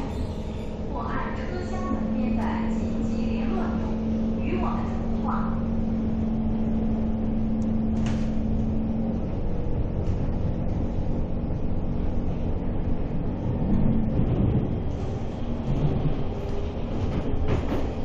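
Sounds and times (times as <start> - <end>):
steady hum: 0.0 - 17.6
train rumble: 0.0 - 18.0.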